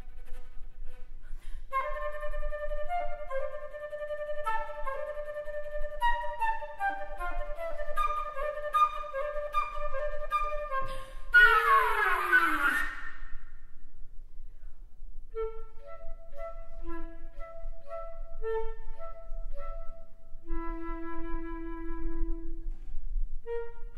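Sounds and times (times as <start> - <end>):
solo flute playing: 0.0 - 13.6, 15.3 - 23.9.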